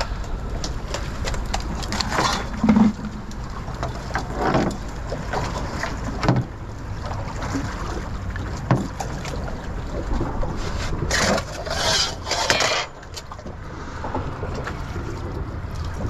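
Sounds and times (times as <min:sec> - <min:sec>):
wind rumble: 0:00.0 - 0:12.3, 0:12.9 - 0:16.0
water moving around a boat: 0:00.0 - 0:16.0.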